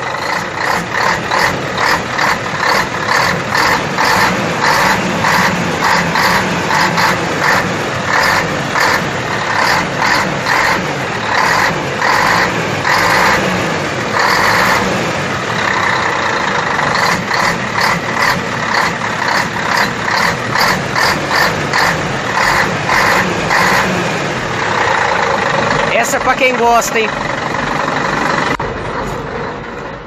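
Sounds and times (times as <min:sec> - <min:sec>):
diesel bus engine running: 0:00.0 - 0:30.0.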